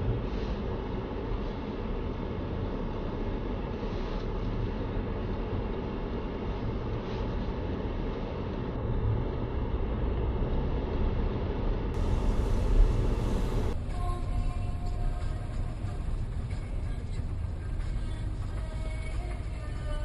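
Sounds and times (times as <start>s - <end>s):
car cabin road noise: 0.0s - 20.0s.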